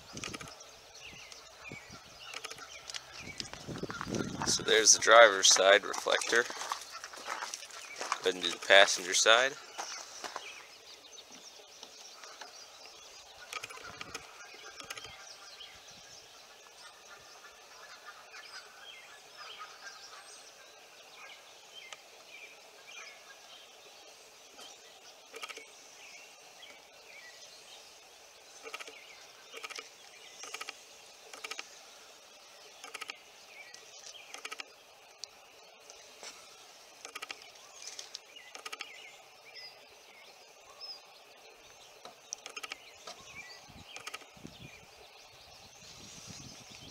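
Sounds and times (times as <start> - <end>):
birds chirping: 0.0 - 46.9
outdoor background noise: 0.0 - 46.9.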